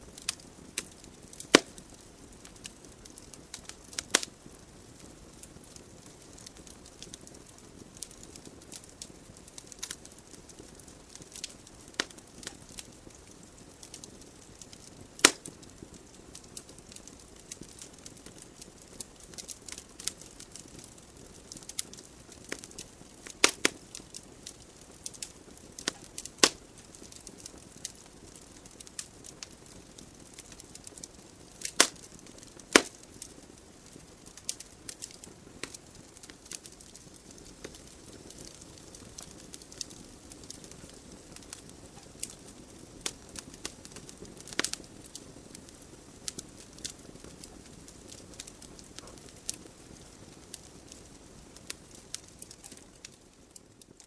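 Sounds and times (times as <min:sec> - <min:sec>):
wood fire hissing and crackling: 0:00.0 - 0:54.0.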